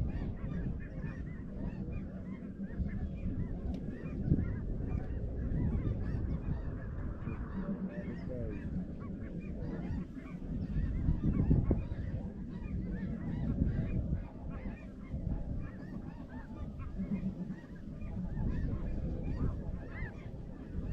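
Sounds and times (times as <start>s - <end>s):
flock of geese calling: 0.0s - 20.9s.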